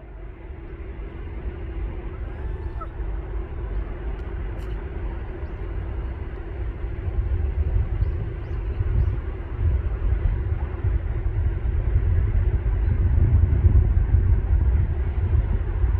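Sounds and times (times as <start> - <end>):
low outdoor rumble: 0.0 - 15.9
steady hum: 0.0 - 15.9.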